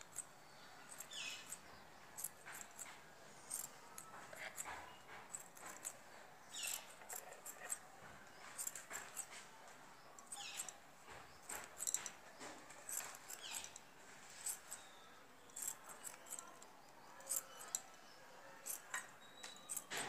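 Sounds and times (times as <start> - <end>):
scissors snipping yarn: 0.0 - 9.5, 10.2 - 20.0.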